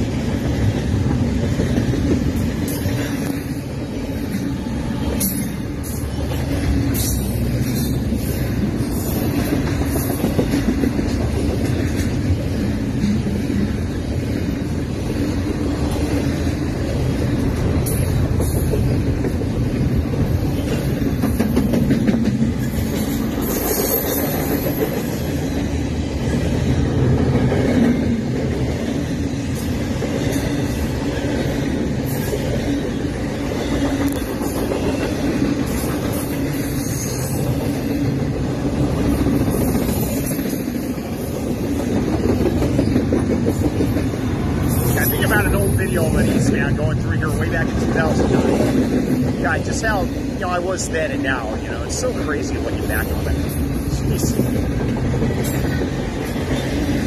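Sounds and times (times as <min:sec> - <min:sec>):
steel wheels rumbling on rails: 0:00.0 - 0:57.0.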